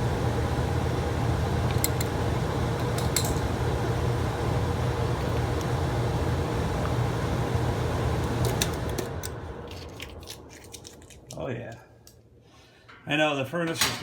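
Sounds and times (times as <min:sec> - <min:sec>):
blower motor hum and air rush: 0:00.0 - 0:13.3.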